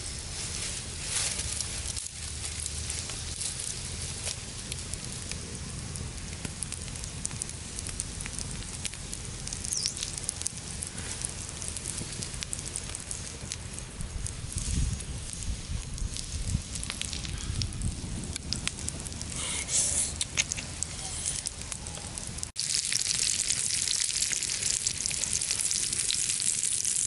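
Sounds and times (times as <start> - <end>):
sausages sizzling in oil: 0.0 - 27.0
wood fire crackling and popping: 0.0 - 27.0.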